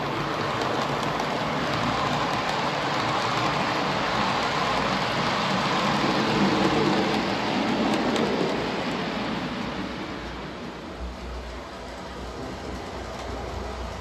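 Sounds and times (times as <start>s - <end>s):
model train rumbling past: 0.0s - 14.0s.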